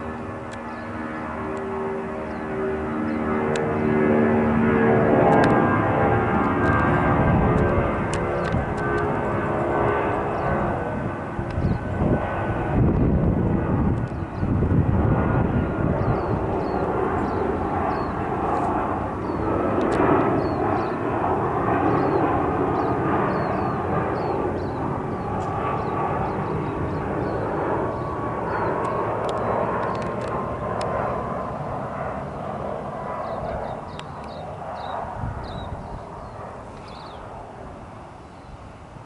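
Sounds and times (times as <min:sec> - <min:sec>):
jet airliner flying over: 0:00.0 - 0:39.0.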